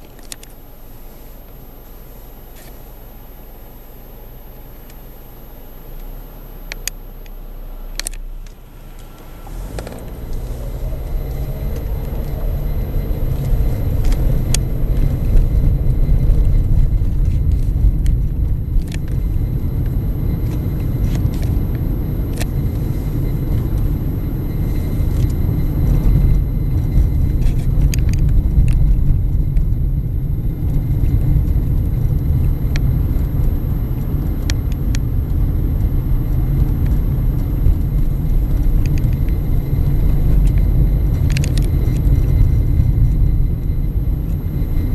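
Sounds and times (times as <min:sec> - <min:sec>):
road and engine rumble: 0:00.0 - 0:44.9.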